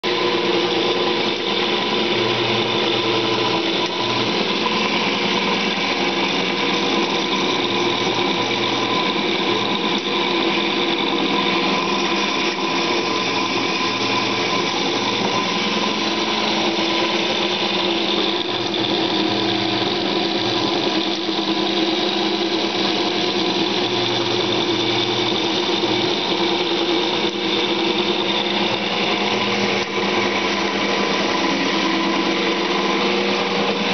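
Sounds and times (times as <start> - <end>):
machine tool whine: 0.0 - 33.9
rough metal cutting noise: 0.0 - 33.9.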